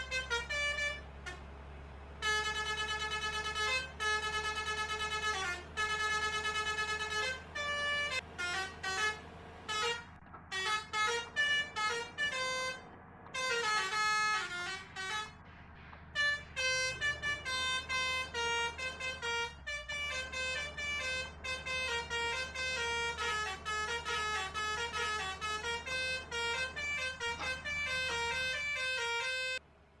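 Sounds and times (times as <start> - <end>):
multi-tone musical horn melody: 0.0 - 1.4, 2.2 - 29.6.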